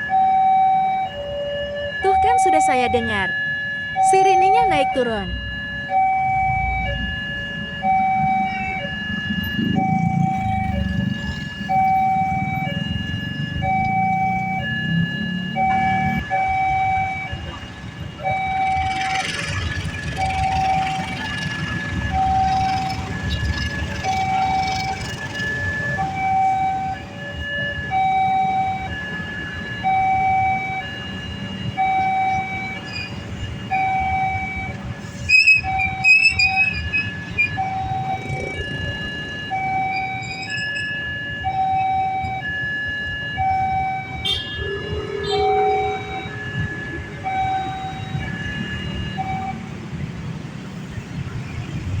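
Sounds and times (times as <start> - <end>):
two-tone warning siren wailing: 0.0 - 52.0.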